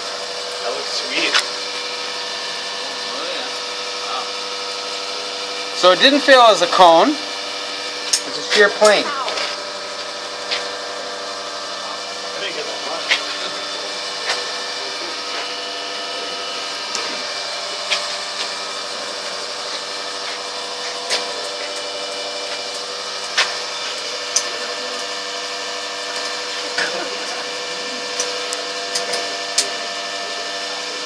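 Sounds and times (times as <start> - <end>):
testing machine humming: 0.0 - 31.0.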